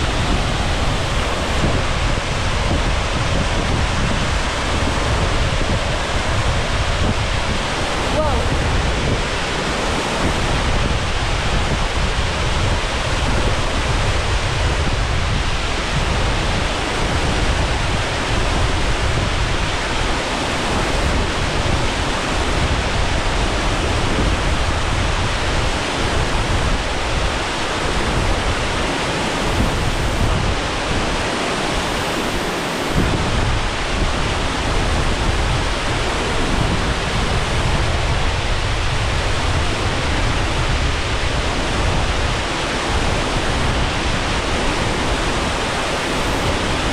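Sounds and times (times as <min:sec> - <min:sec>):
waterfall rushing into pool: 0:00.0 - 0:46.9.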